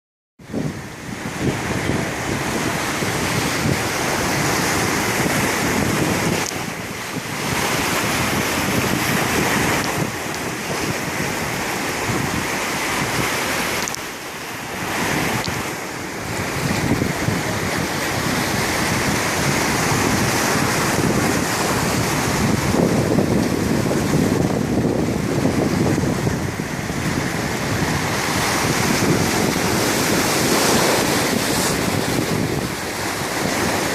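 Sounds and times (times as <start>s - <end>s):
waves surging and washing: 0.4s - 33.9s
wind buffeting microphone: 0.4s - 33.9s.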